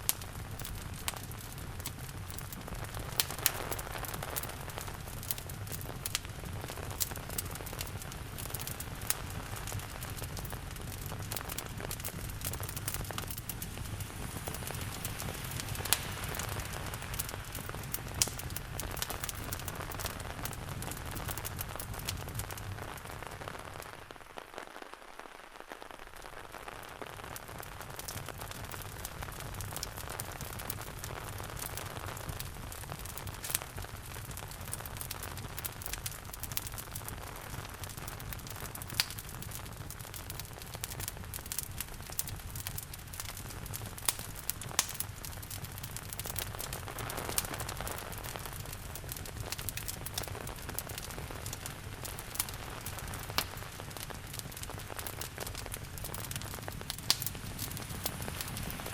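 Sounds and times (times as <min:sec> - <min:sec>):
steady rain falling: 0:00.0 - 0:58.9
wood fire crackling and popping: 0:00.0 - 0:58.9.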